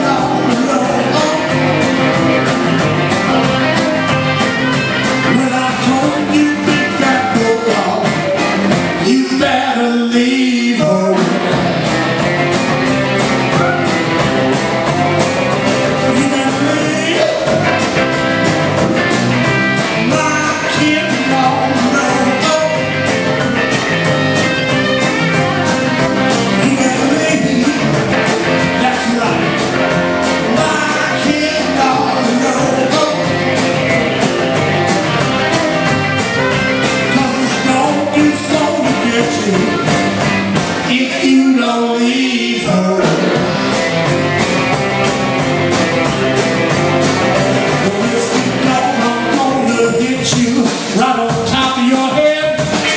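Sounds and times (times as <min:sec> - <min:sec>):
drum kit beat: 0:00.0 - 0:52.9
electric bass: 0:00.0 - 0:52.9
electric guitars: 0:00.0 - 0:52.9.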